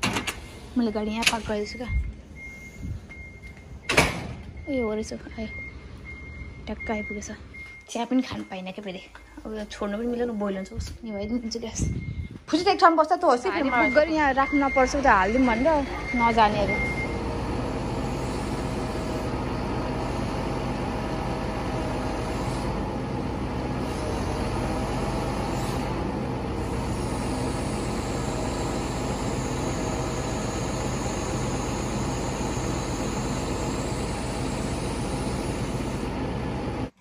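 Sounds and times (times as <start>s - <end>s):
truck engine drone: 0.0s - 7.8s, 13.5s - 37.0s.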